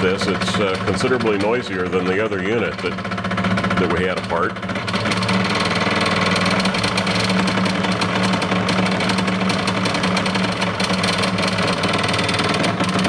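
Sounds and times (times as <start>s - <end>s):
scroll saw hum and clatter: 0.0s - 13.0s.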